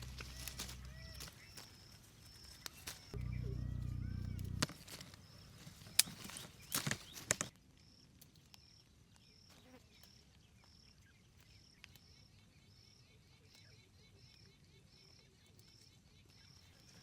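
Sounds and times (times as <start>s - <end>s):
quiet outdoor ambience: 0.0s - 17.0s.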